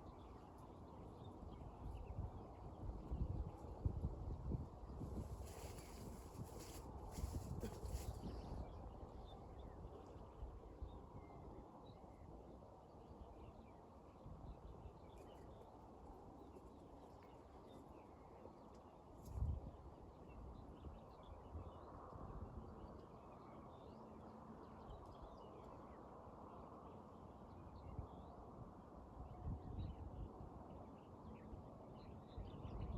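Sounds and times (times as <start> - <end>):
low steady background noise: 0.0 - 32.9.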